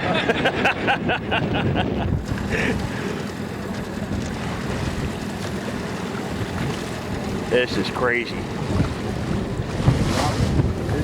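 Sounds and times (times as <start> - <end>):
waves washing around boat: 0.0 - 11.0
wind buffeting microphone: 0.0 - 11.0.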